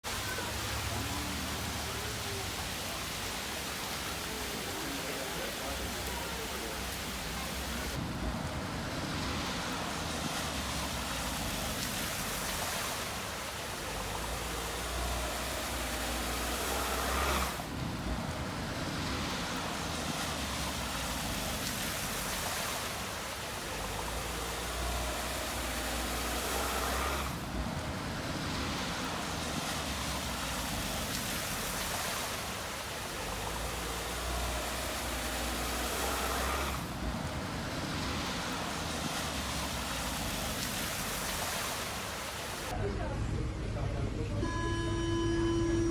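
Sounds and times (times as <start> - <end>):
heavy rain: 0.0 - 42.8
running floodwater: 0.0 - 45.9.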